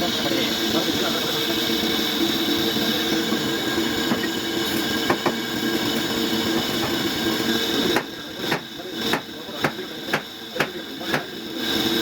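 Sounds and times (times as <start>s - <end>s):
metalworking machine humming: 0.0s - 12.0s.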